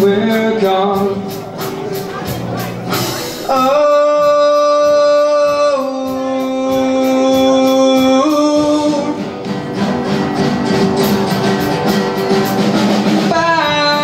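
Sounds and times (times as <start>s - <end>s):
guitar-led instrumental: 0.0s - 14.0s.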